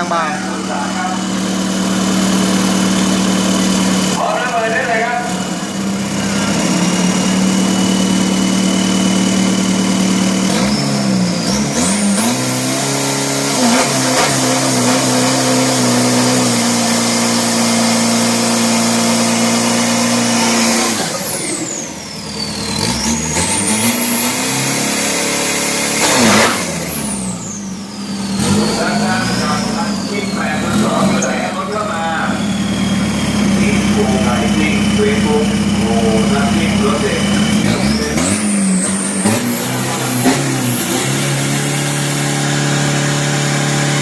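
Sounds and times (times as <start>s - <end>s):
pickup engine revving hard: 0.0s - 4.2s, 5.0s - 44.0s.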